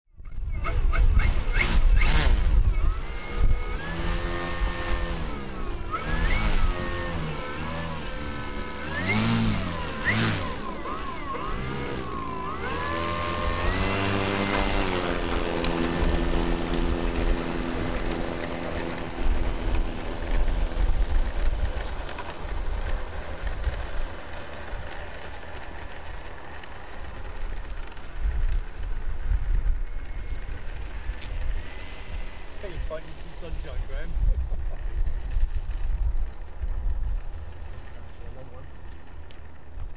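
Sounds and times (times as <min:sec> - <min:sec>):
electric motor and propeller whine: 0:00.1 - 0:39.9
low gusty rumble: 0:00.2 - 0:39.9.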